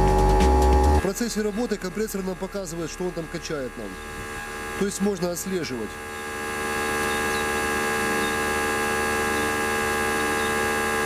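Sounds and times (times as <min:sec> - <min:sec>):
tyre compressor buzzing hum: 0:00.0 - 0:11.0.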